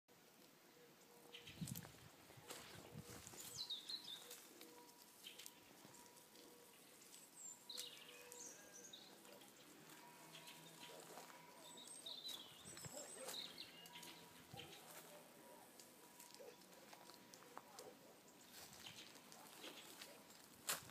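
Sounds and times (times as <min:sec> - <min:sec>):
small birds chirping: 0:00.7 - 0:20.5
rustling in dry leaves: 0:01.4 - 0:20.9.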